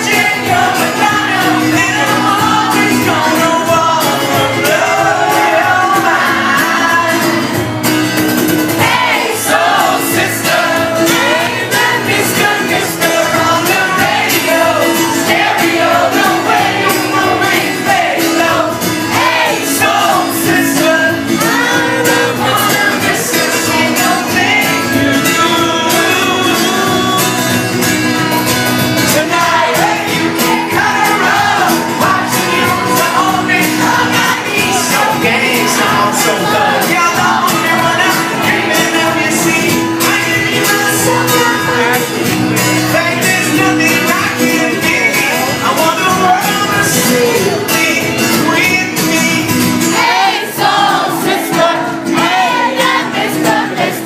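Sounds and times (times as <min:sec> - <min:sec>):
lead singing: 0:00.0 - 0:54.0
live pop-rock band: 0:00.0 - 0:54.0.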